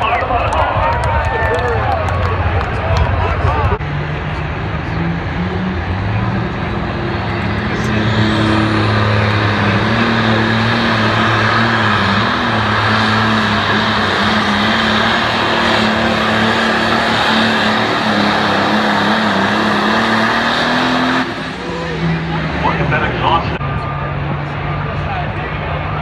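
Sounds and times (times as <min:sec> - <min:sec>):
tractor engine running hard: 0:00.0 - 0:26.0.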